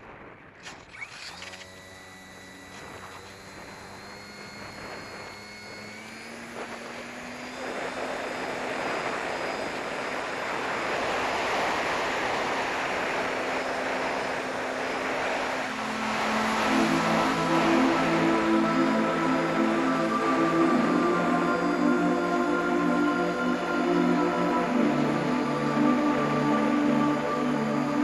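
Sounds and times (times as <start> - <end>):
model plane motor whine: 0.6 - 28.0
rushing noise: 4.6 - 28.0.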